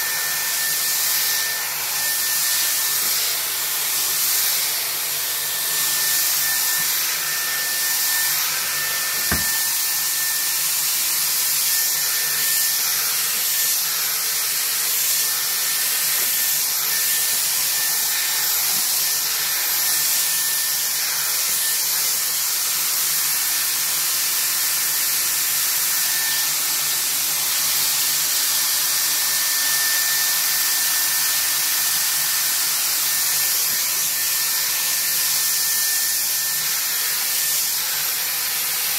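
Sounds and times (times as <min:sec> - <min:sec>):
hair styler air rush and whine: 0:00.0 - 0:38.9.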